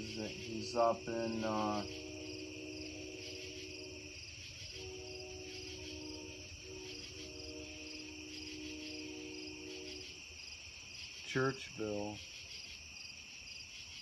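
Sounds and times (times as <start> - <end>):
faint low hum: 0.0 - 12.2
crickets chirring: 0.0 - 14.0.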